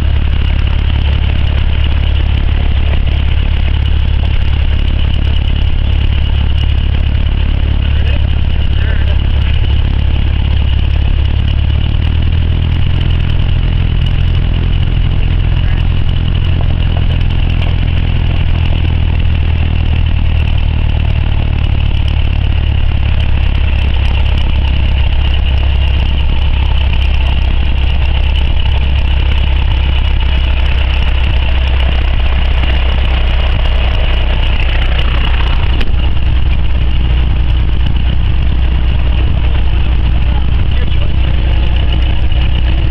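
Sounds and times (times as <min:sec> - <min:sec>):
propeller aircraft engine droning: 0:00.0 - 0:42.9.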